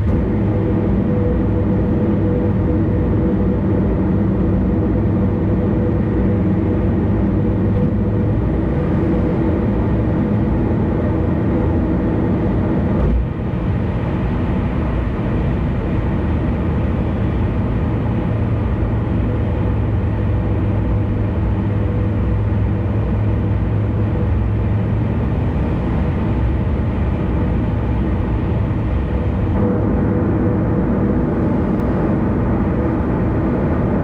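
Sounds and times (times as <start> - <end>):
car road and engine drone: 0.0 - 34.0.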